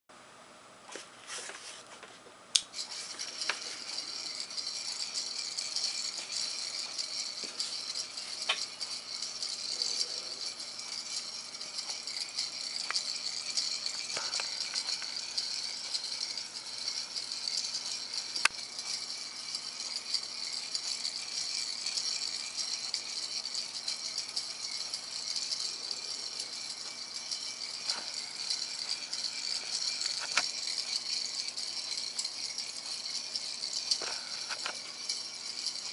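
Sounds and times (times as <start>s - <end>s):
small gears rattling: 2.7s - 35.9s.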